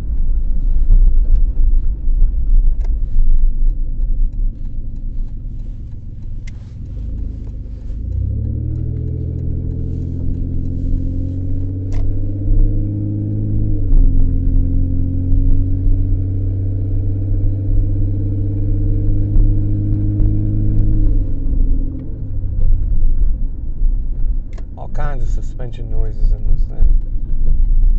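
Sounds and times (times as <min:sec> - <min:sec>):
car engine revving: 0:00.0 - 0:27.9
road noise inside car: 0:00.0 - 0:27.9.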